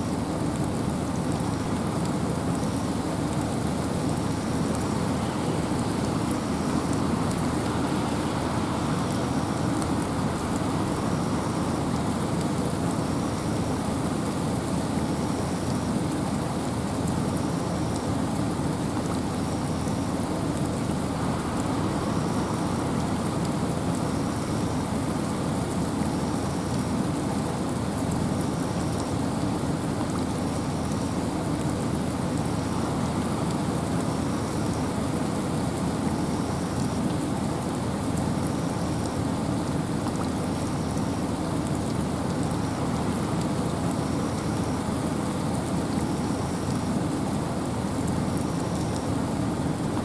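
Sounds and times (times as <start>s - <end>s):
steady rain: 0.0s - 50.0s
wind: 0.0s - 50.0s.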